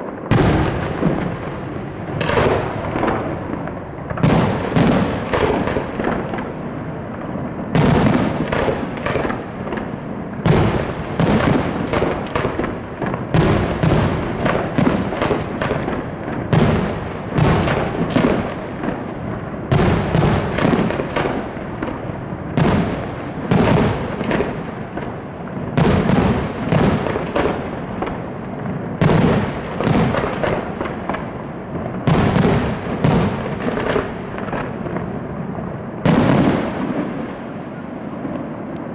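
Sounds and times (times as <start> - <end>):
firework bangs: 0.0 - 38.9
firework crackling: 0.0 - 38.9.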